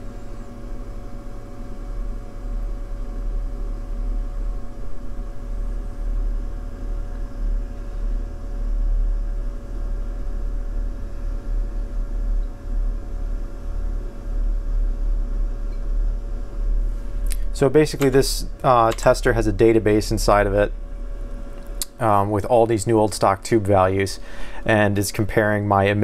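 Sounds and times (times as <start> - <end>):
tube tester humming: 0.0 - 26.0.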